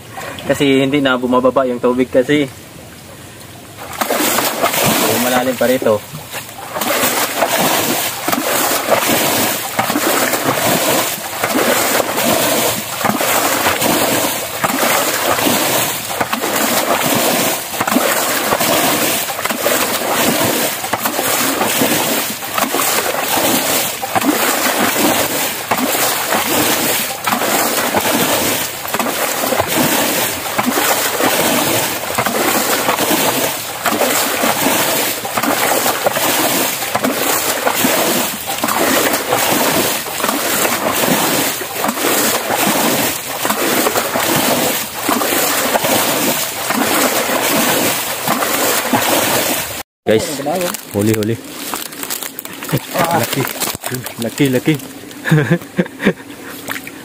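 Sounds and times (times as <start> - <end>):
bucket splashing water: 3.8 - 57.0.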